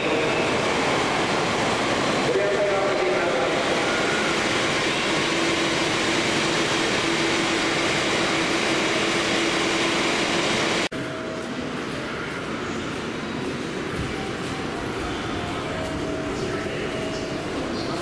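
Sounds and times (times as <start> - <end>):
station concourse hum: 0.0 - 18.0
train humming and hissing: 0.0 - 18.0.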